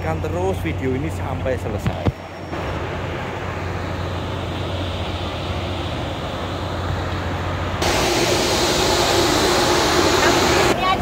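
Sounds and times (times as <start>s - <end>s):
low machinery hum: 0.0s - 11.0s
outdoor noise: 0.0s - 11.0s.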